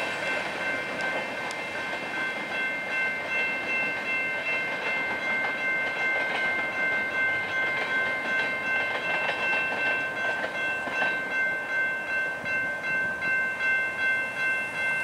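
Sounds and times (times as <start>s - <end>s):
train wheels clacking over rails: 0.0s - 13.8s
high-pitched ringing: 0.0s - 15.0s.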